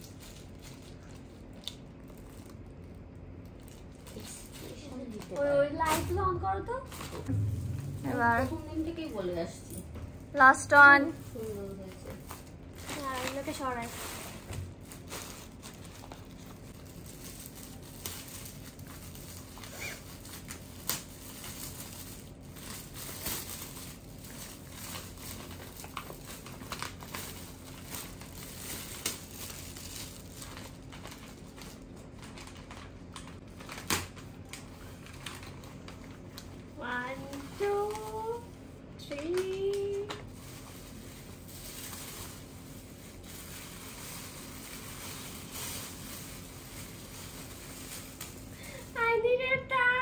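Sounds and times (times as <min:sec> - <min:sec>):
gift wrap crinkling: 0:00.0 - 0:50.0
paper bag rustling: 0:00.0 - 0:50.0.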